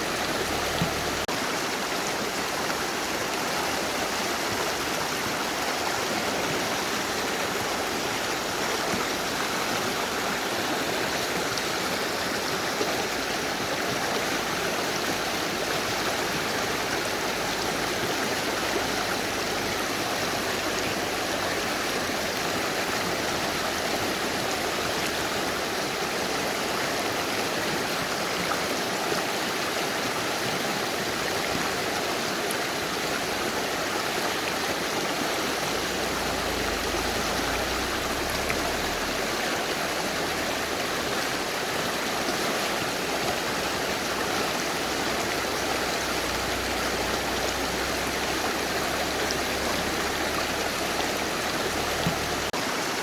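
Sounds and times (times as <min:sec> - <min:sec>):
river rushing over rocks: 0:00.0 - 0:53.0.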